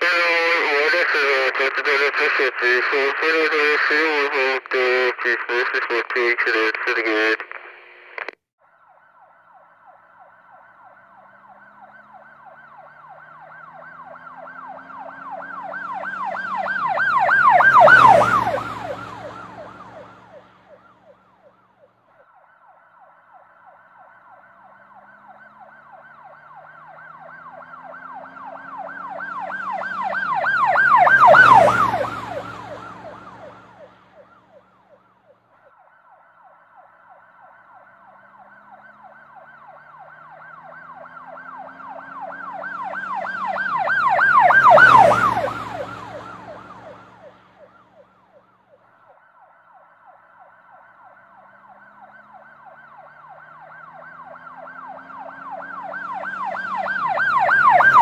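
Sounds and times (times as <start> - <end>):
warbling siren passing: 8.6 - 58.0.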